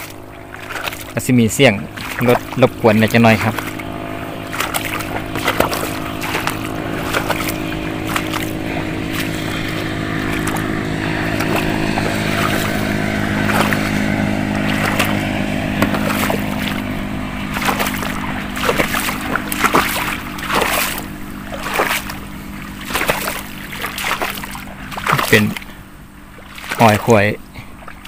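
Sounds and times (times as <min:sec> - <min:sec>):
person wading through water: 0:00.0 - 0:28.0
vehicle engine humming: 0:00.0 - 0:28.0.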